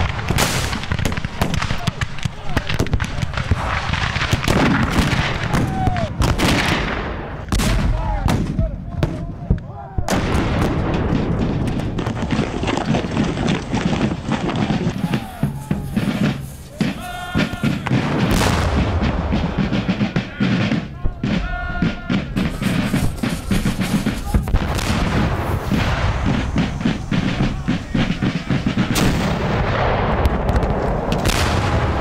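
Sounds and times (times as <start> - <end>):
cannon and musket fire: 0.0 - 32.0.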